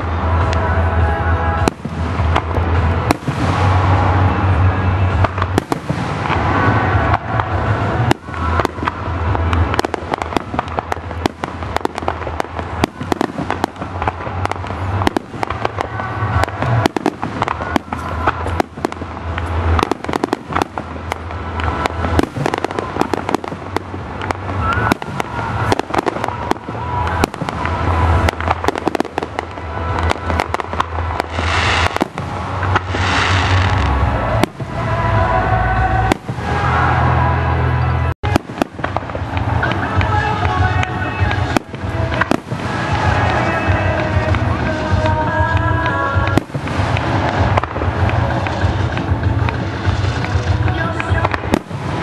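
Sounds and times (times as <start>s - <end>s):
firework bangs: 0.0s - 52.0s
hissing crackle of fireworks: 0.0s - 52.0s
low rumble: 0.0s - 52.0s.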